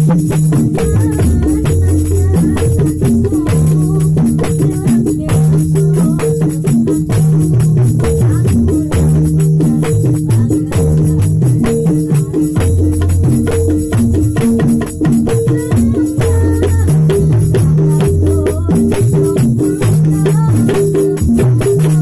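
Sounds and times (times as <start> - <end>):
hand drums in fast rhythm: 0.0 - 22.0.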